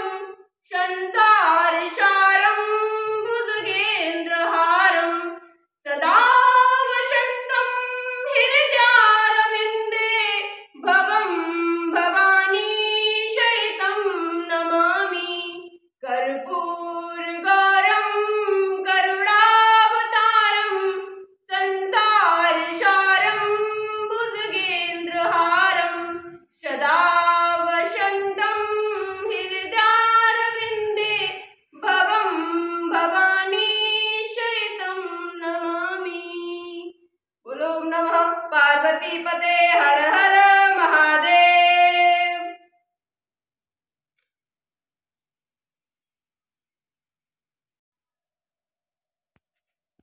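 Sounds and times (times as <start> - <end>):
woman singing a hymn: 0.0 - 36.9, 37.5 - 42.5.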